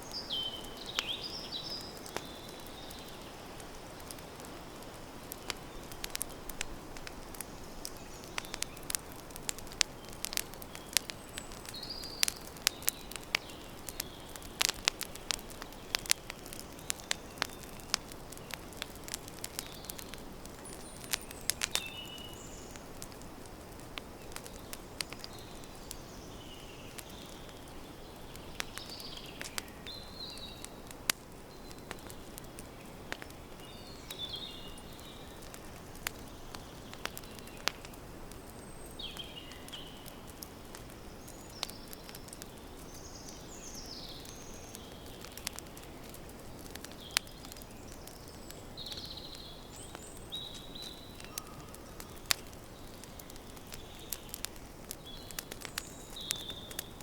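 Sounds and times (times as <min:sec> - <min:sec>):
birds chirping: 0:00.0 - 0:06.4, 0:07.0 - 0:22.9, 0:24.2 - 0:30.9, 0:31.5 - 0:57.0
campfire crackling and popping: 0:00.0 - 0:57.0.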